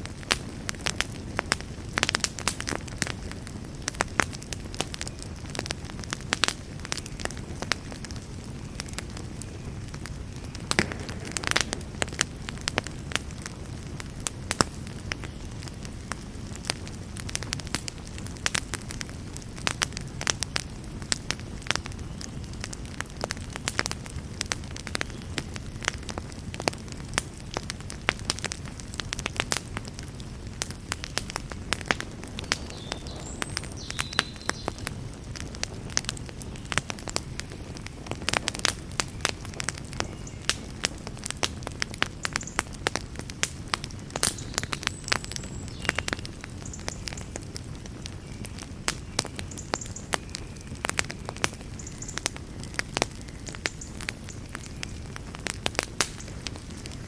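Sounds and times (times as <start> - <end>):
fire crackling and popping: 0.0 - 57.0
flames rushing: 0.0 - 57.0.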